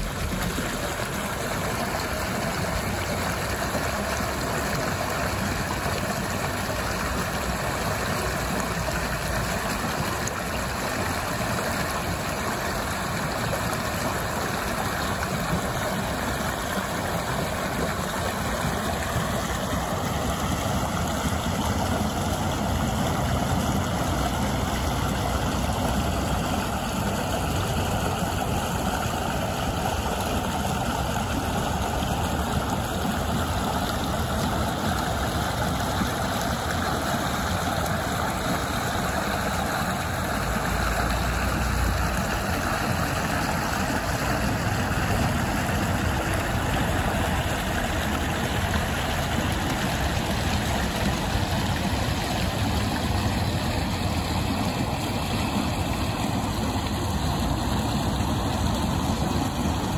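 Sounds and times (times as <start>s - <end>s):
creek water rushing and splashing: 0.0s - 59.9s.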